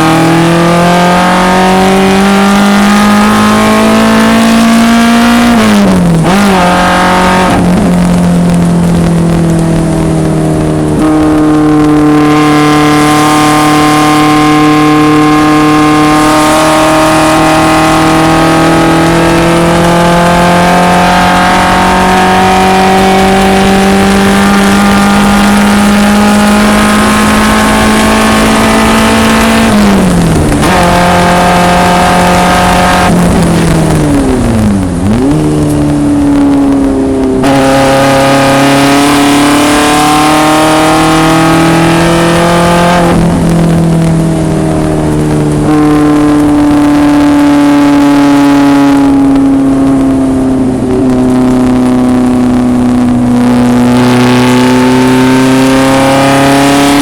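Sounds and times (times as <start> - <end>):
racecar engine revving hard: 0.0 - 57.0.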